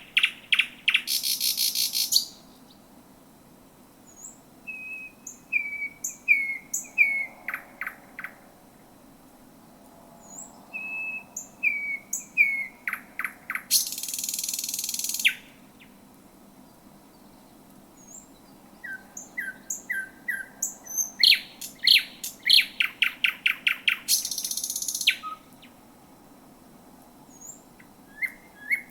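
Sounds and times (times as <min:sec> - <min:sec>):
bird singing: 0:00.0 - 0:02.8, 0:04.1 - 0:08.5, 0:10.2 - 0:16.0, 0:16.6 - 0:25.8, 0:27.3 - 0:28.9.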